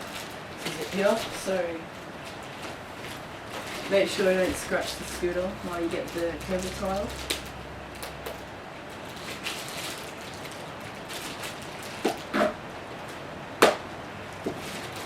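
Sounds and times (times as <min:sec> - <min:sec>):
packaging rustling: 0:00.0 - 0:12.3.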